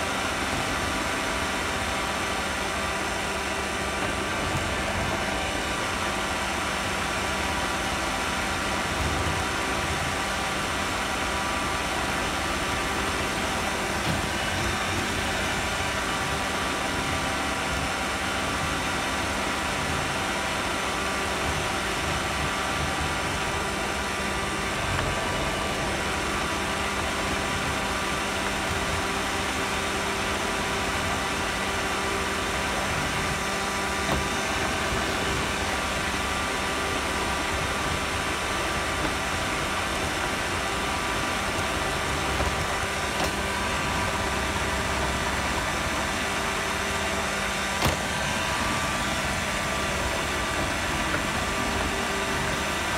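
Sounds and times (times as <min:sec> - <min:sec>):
robot vacuum whirring: 0:00.0 - 0:52.9.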